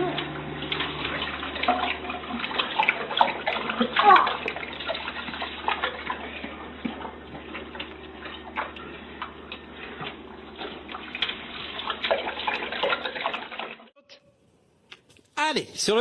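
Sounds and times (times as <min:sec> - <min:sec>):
water splashing in a tub: 0:00.0 - 0:14.0.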